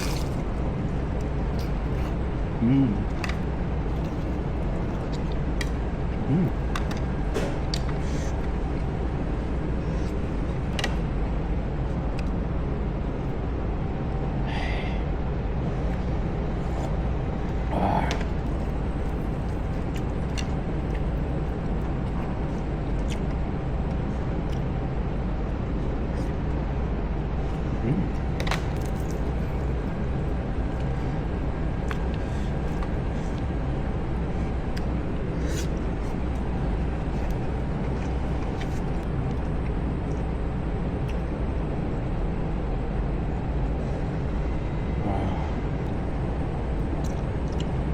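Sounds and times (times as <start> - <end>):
faint hum: 0.0 - 47.9
low background rumble: 0.0 - 47.9.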